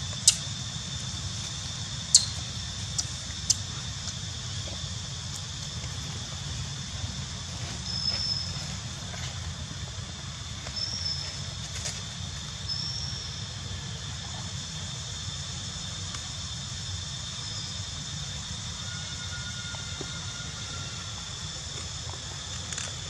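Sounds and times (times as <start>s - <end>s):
constant high hum: 0.0s - 23.0s.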